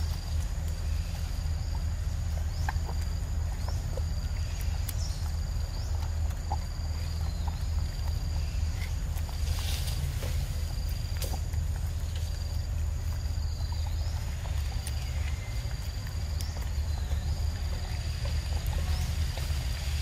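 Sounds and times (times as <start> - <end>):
low rumble: 0.0 - 20.0
monkeys chewing with wet smacks: 0.0 - 20.0.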